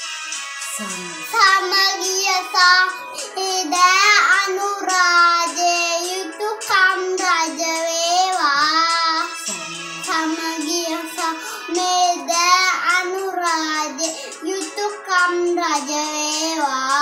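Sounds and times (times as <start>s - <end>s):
boy singing devotional song: 0.7s - 17.0s.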